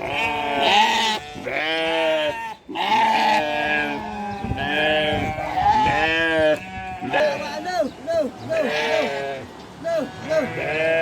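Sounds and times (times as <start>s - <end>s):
herd of goats bleating: 0.0s - 11.0s.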